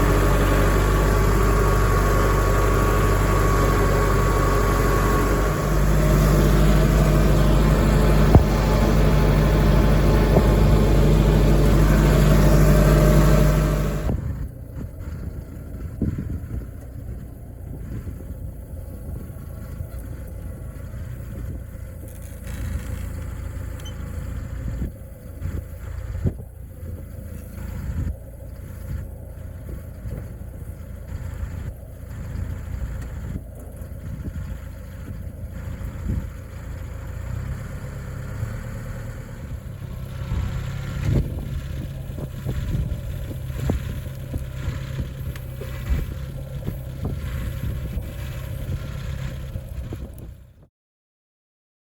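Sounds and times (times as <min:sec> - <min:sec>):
vehicle engine running: 0:00.0 - 0:50.7.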